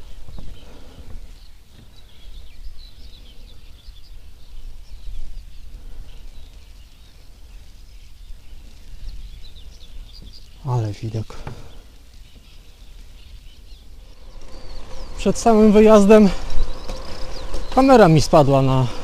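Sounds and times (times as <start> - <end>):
wind rumble on microphone: 0.0 - 10.6, 11.4 - 19.0
small birds chirping and singing: 0.0 - 19.0.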